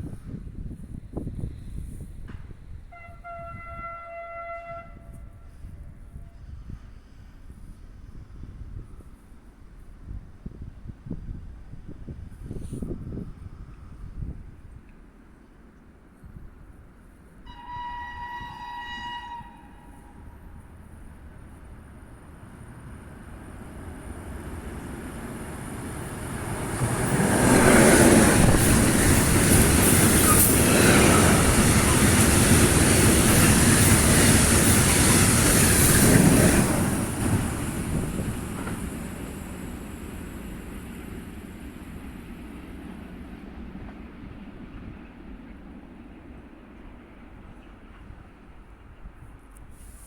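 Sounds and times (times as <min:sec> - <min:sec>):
freight train passing: 0:00.0 - 0:49.7.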